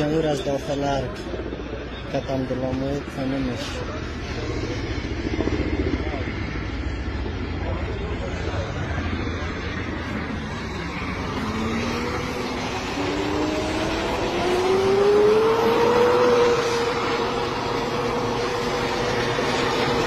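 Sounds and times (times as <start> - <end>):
helicopter turbine whining: 0.0 - 20.0.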